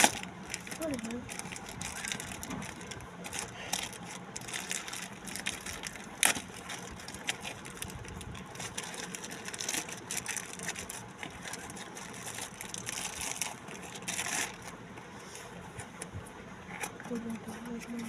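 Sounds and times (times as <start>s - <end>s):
packaging crinkling and rustling: 0.0s - 14.9s.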